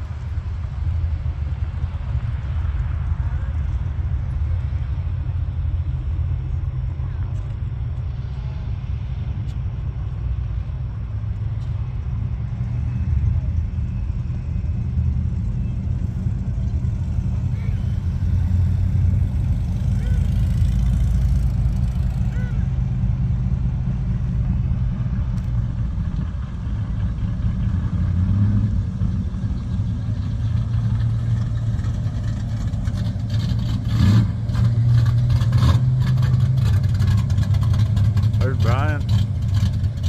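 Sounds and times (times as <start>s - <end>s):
car engines idling and pulling away: 0.0s - 40.0s.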